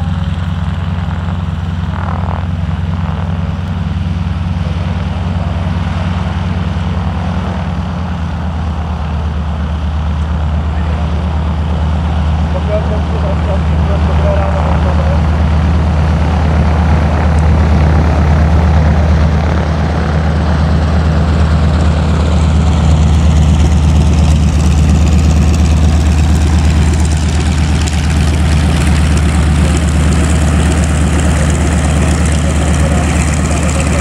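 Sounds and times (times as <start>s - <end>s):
helicopters droning: 0.0s - 34.0s.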